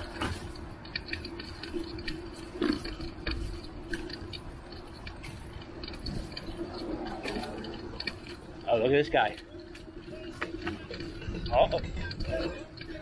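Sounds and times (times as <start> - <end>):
bicycle rattling on pavement: 0.0 - 13.0.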